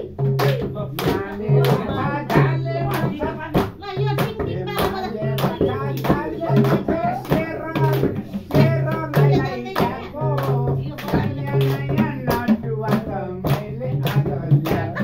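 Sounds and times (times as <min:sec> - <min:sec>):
hand drum beating: 0:00.0 - 0:15.0
people singing folk song: 0:00.0 - 0:15.0.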